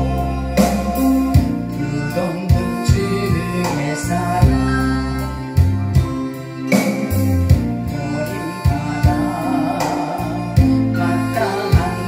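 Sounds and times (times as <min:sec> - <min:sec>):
backing track with drums and bass: 0:00.0 - 0:12.0.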